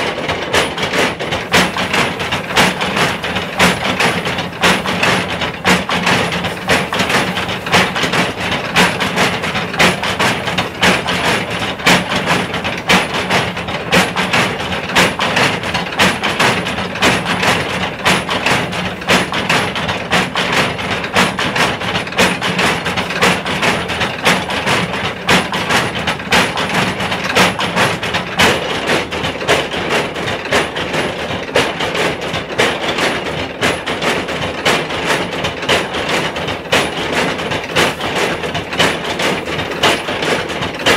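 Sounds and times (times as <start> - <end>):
pestles pounding in mortars: 0.0 - 40.9.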